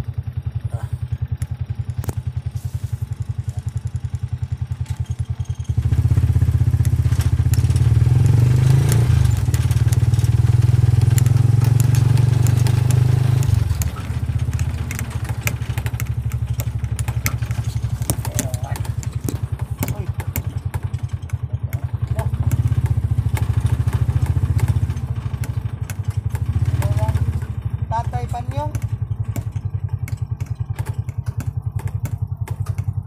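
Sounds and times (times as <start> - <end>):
small motorcycle engine: 0.0 - 33.0.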